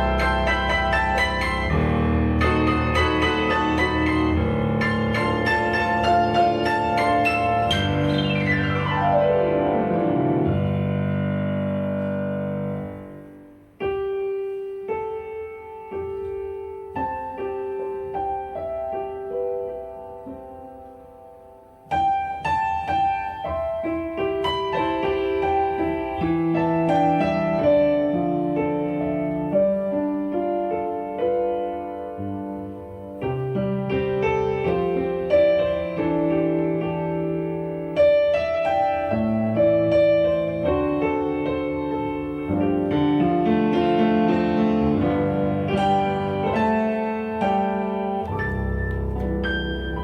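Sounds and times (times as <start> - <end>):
instrumental piano music: 0.0 - 50.0.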